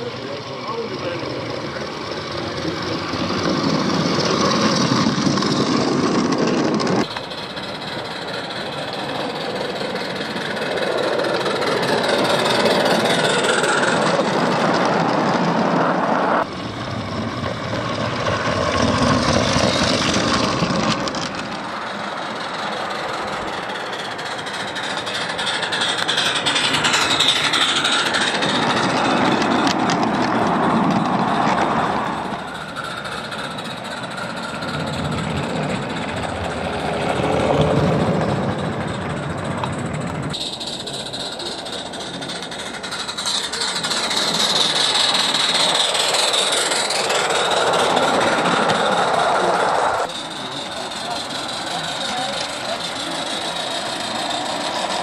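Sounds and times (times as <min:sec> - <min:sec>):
model train wheels clattering: 0:00.0 - 0:15.8, 0:16.4 - 0:55.0.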